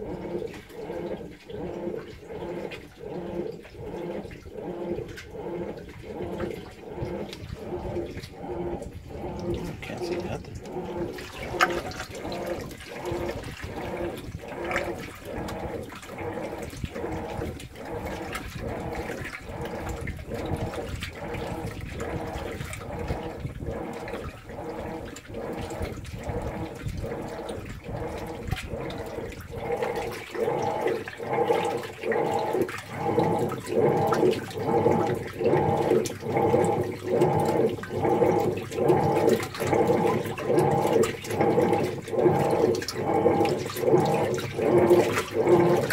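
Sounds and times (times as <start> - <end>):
water and clothes sloshing in washer: 0.0 - 45.9.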